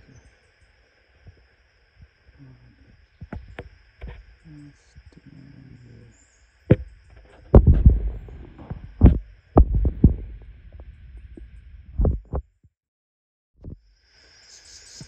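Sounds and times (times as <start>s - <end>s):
insects buzzing: 0.0s - 12.1s, 13.6s - 15.0s.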